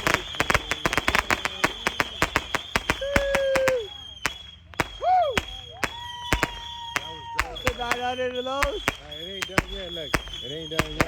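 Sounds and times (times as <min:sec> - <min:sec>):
fireworks cracking: 0:00.0 - 0:11.0.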